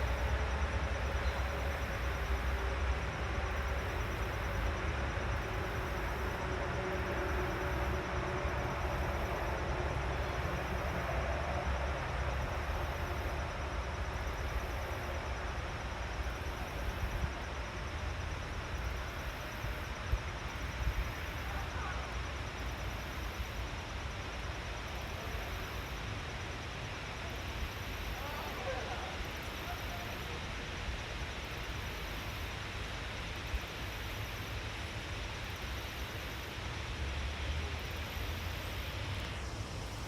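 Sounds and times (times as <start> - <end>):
continuous rushing noise: 0.0 - 40.0.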